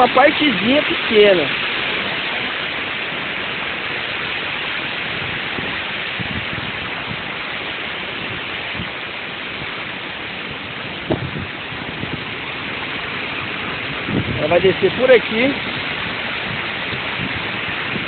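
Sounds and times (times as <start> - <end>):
waterfall rushing over rocks: 0.0 - 18.0.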